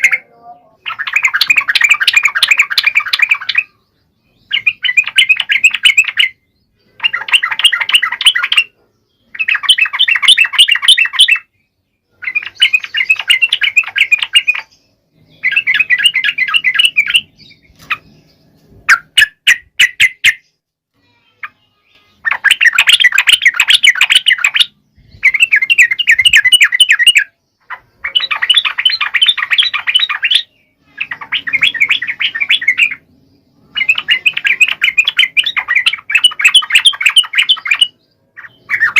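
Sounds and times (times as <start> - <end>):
bulbul singing chattering phrases: 0.0 - 11.5, 12.1 - 38.9.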